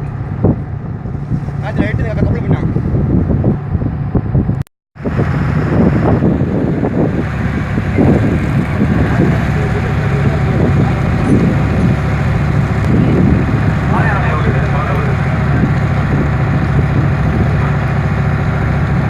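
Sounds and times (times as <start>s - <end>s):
boat engine running: 0.0s - 19.0s
wind noise on microphone: 0.0s - 19.0s.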